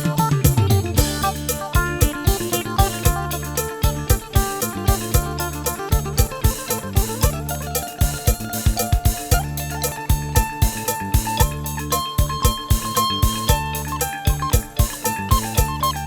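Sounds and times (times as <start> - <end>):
music with steady beat and bass: 0.0 - 16.0.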